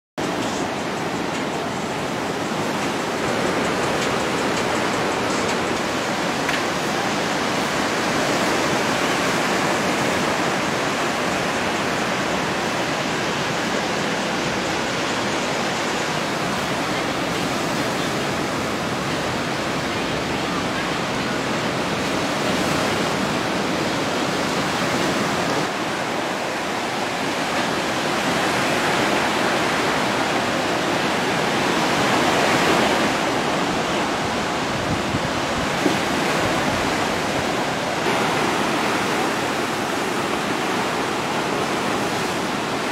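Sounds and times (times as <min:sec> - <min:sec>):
ocean surf breaking: 0:00.2 - 0:42.9.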